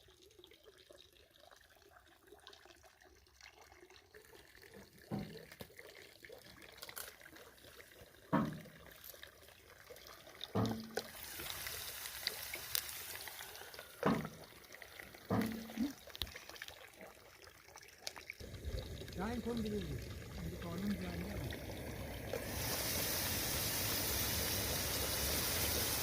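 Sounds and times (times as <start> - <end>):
water pouring and trickling: 0.0 - 26.0.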